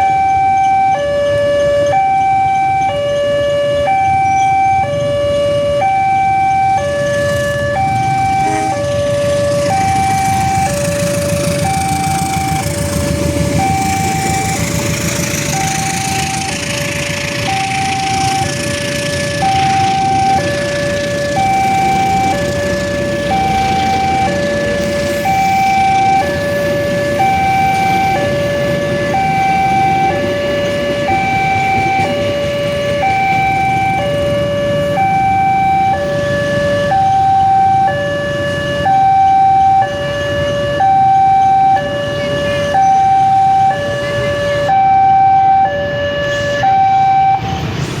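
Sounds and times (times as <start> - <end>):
level crossing two-tone alarm: 0.0 - 47.7
road traffic noise: 0.0 - 48.0.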